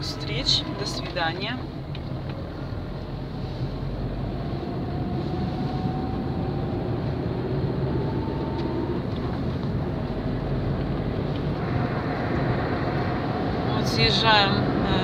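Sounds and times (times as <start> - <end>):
faint rising whine: 0.0 - 10.0, 11.5 - 15.0
car engine and road rumble: 0.0 - 15.0.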